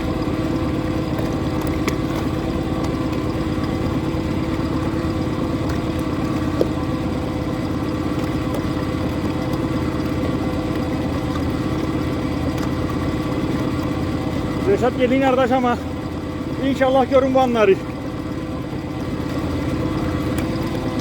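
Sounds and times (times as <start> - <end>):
motorboat engine idling: 0.0 - 21.0.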